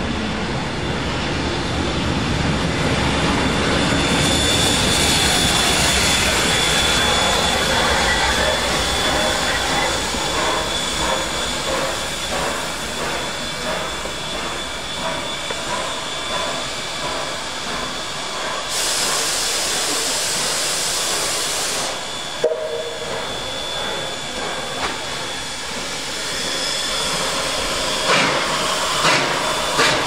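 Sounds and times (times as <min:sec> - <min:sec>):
steam locomotive working: 0:00.0 - 0:30.0
loud steam hiss: 0:02.9 - 0:30.0.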